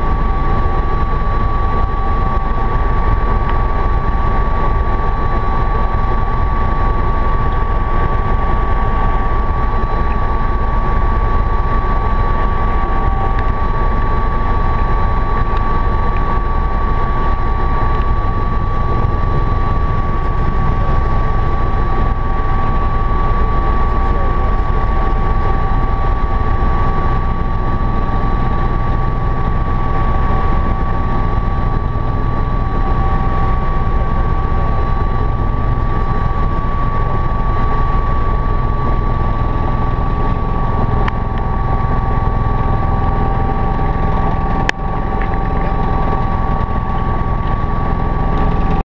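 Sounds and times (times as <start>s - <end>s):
helicopter engine and rotor: 0.0s - 48.8s.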